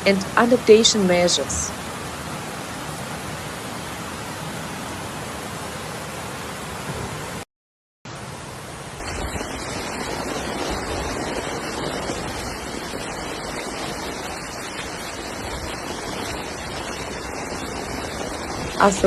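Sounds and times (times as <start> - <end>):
floodwater rushing: 0.0 - 7.4, 8.1 - 19.0.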